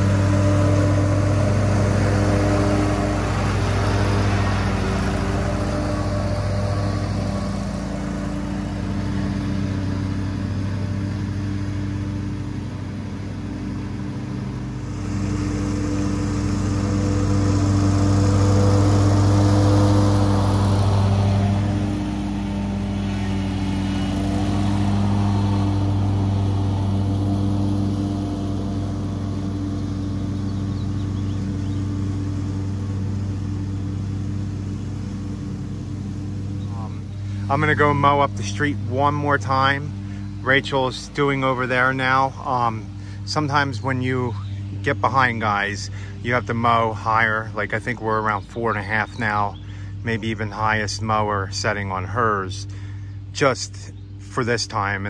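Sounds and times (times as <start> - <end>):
mower engine running: 0.0 - 55.0.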